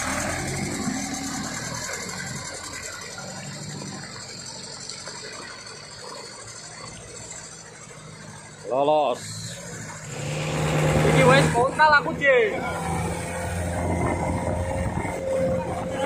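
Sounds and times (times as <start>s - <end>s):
truck engine driving away: 0.0s - 16.0s.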